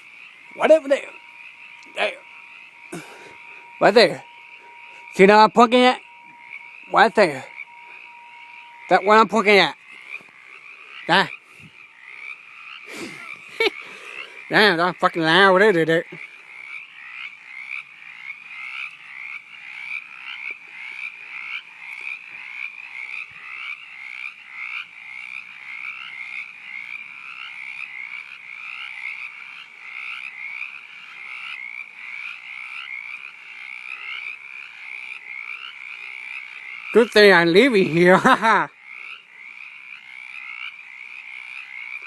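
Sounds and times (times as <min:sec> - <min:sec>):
frog croaking: 0:00.0 - 0:42.0.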